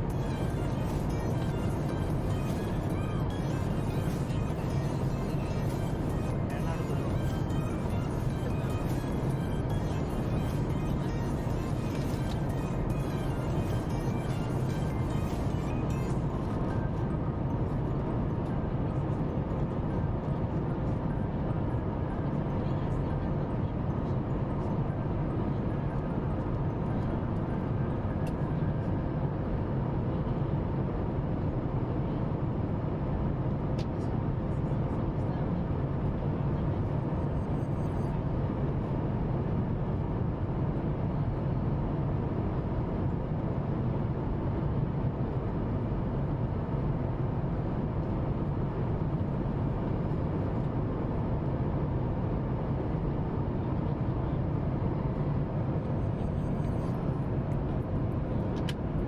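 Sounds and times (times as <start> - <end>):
airplane cabin engine and airflow rush: 0.0 - 59.0
faint steady hum: 0.0 - 59.0.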